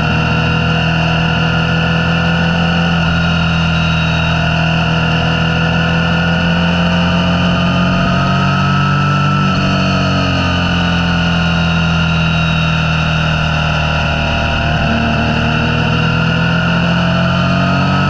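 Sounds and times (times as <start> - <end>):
motorcycle engine cruising: 0.0 - 18.0
road and wind noise: 0.0 - 18.0.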